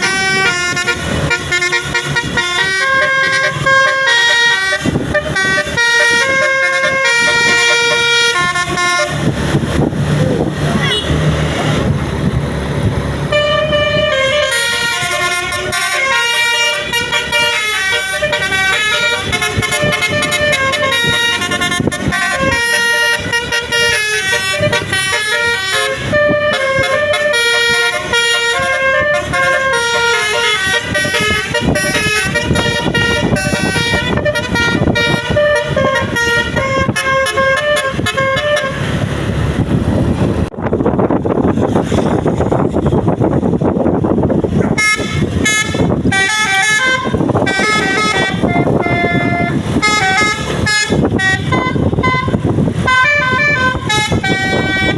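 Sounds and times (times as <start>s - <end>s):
musical bus horn melody: 0.0s - 9.5s, 13.3s - 39.2s, 44.6s - 54.9s
low vehicle rumble: 0.0s - 54.9s.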